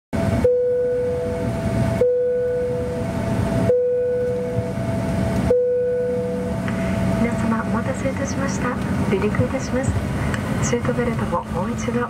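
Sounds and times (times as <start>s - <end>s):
jet engines rumbling: 0.2s - 12.0s
low hum: 0.2s - 12.0s
thin steady whine: 0.2s - 12.0s.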